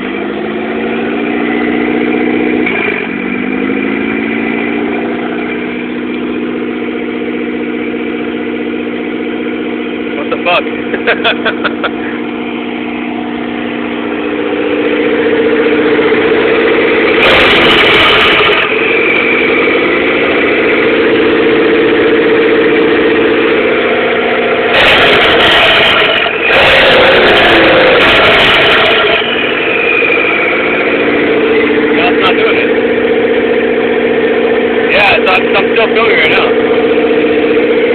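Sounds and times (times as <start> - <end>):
car engine idling unevenly: 0.0 - 37.9.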